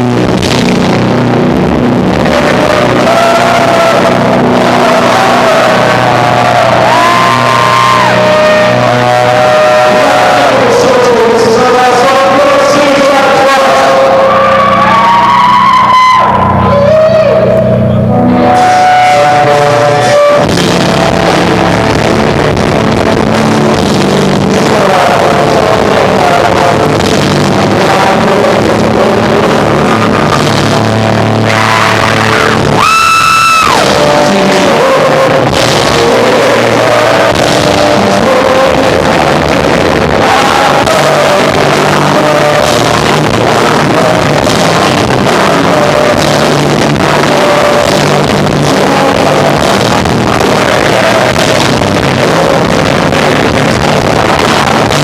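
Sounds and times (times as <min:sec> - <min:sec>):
live rock band with vocals: 0:00.0 - 0:55.0.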